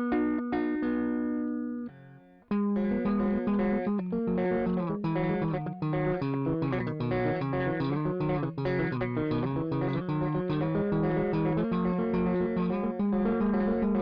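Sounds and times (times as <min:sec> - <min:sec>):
overdriven electric guitar: 0:00.0 - 0:14.0.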